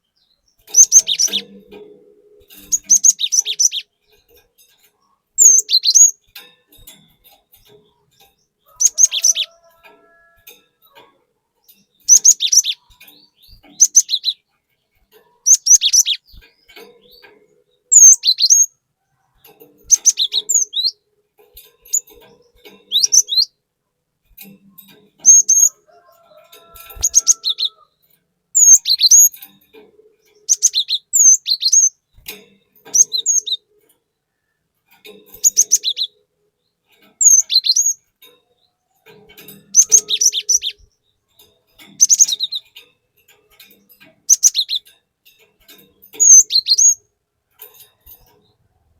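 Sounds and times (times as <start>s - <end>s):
bird singing high chirps: 0.0s - 23.6s, 24.8s - 34.7s, 35.3s - 43.0s, 43.6s - 45.0s, 45.7s - 47.1s.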